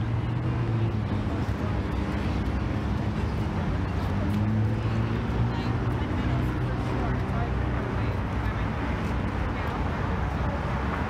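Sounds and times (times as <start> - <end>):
low engine hum: 0.0 - 11.0
street traffic: 0.0 - 11.0.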